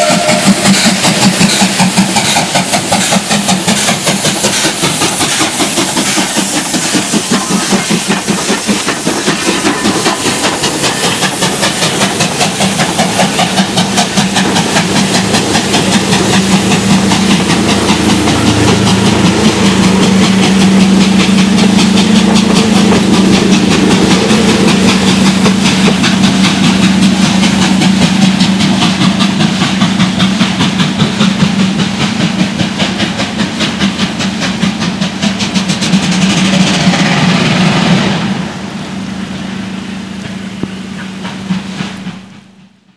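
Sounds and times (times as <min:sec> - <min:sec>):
continuous steam hiss: 0:00.0 - 0:42.9
steam locomotive exhaust chuffs: 0:00.0 - 0:42.9.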